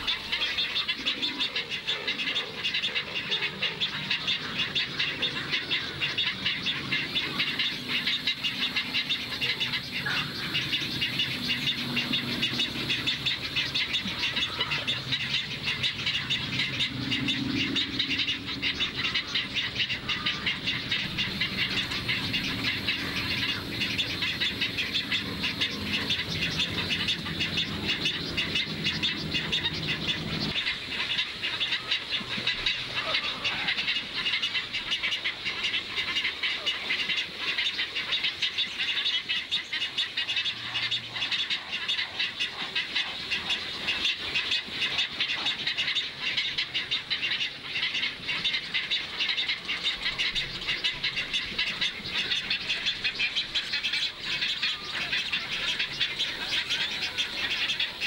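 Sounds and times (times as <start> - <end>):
dense chorus of animal calls: 0.0 - 58.0.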